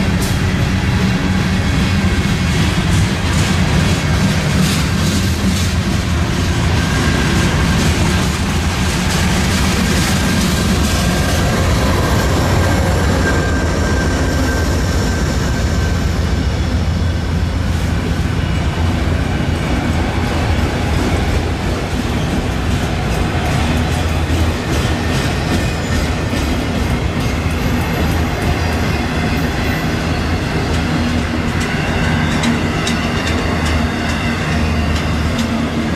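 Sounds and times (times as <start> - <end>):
clickety-clack over rail joints: 0.0 - 35.9
diesel locomotive passing: 0.0 - 35.9
freight train wheels rumbling: 0.0 - 35.9.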